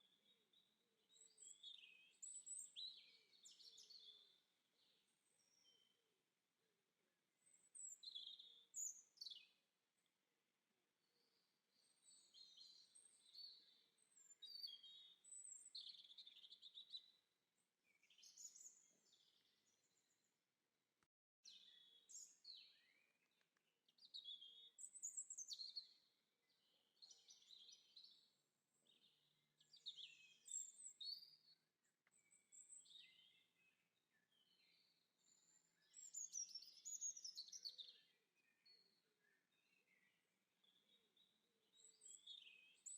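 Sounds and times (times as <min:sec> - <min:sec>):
songbirds chirping and singing: 0:00.2 - 0:05.9, 0:07.5 - 0:10.1, 0:11.1 - 0:17.2, 0:17.8 - 0:20.2, 0:21.5 - 0:42.9.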